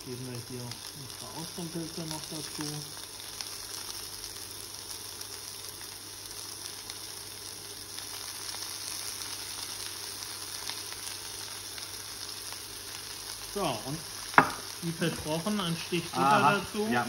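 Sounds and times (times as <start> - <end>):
mushrooms sizzling in oil: 0.0 - 17.0.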